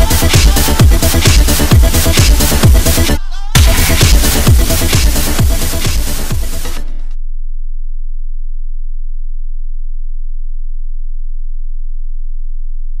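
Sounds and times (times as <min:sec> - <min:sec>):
deep pulsing bass tone: 0:00.0 - 0:13.0.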